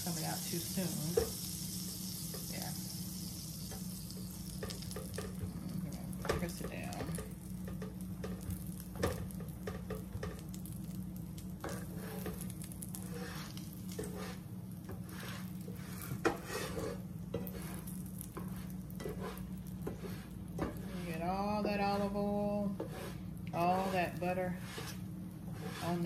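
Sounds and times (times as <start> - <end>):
spatula scraping pan: 0.0 - 10.5, 11.6 - 26.0
butter sizzling in frying pan: 0.0 - 25.8
steady low hum: 0.0 - 26.0.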